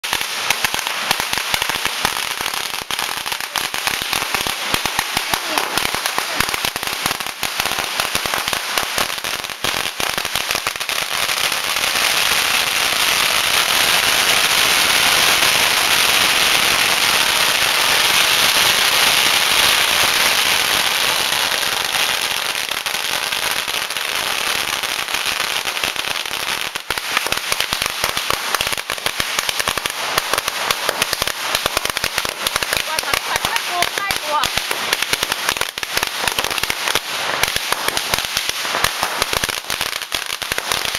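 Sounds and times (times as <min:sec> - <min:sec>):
firecrackers banging: 0:00.0 - 0:40.9.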